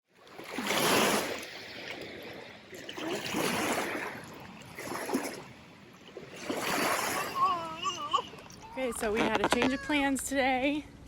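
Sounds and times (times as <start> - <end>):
water washing and splashing: 0.2 - 9.7.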